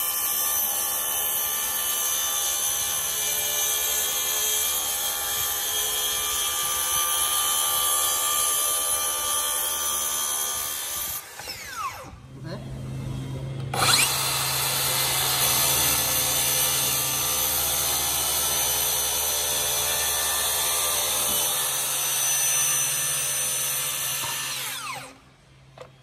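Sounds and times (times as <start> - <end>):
plunge saw cutting wood: 0.0 - 13.0, 13.6 - 25.3.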